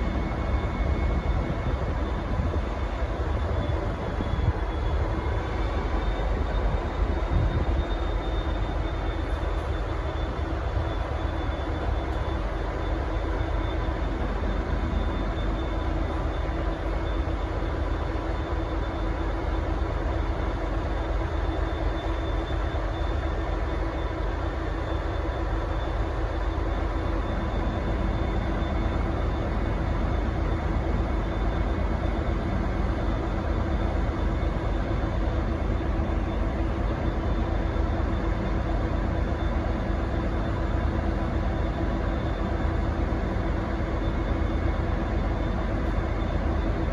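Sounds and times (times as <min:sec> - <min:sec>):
constant hum: 0:00.0 - 0:46.9
diesel locomotive rumble: 0:00.0 - 0:46.9.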